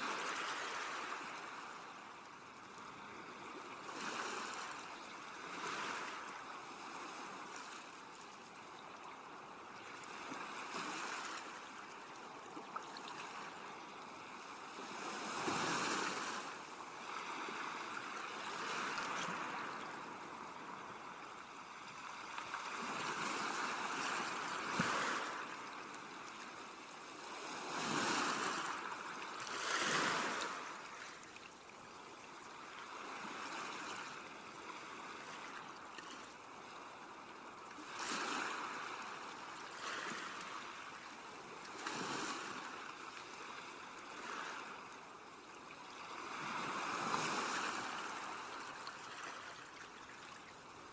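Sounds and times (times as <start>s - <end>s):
sea waves washing in: 10.1s - 50.9s.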